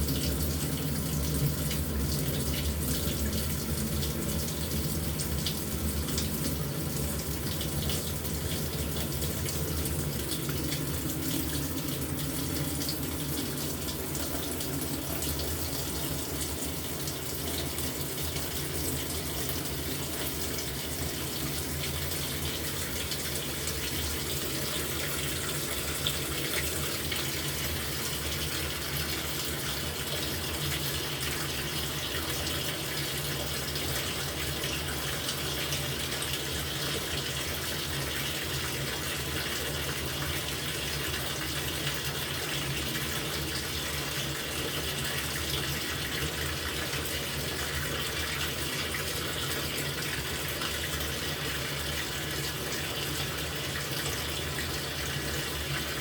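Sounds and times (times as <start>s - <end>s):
washing machine filling with water: 0.0s - 56.0s.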